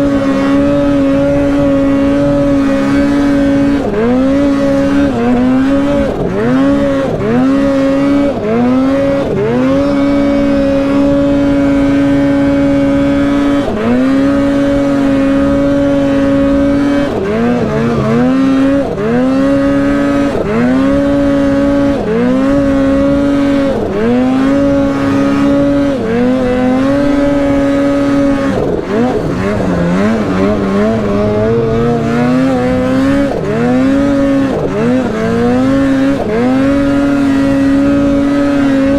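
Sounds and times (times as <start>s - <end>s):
snowmobile engine: 0.0s - 38.9s.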